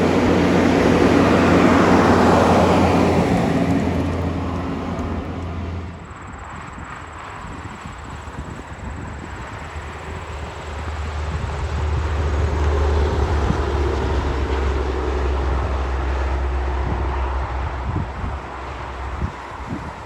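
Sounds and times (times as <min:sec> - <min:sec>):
heavy truck driving past: 0:00.0 - 0:06.5, 0:08.9 - 0:20.0.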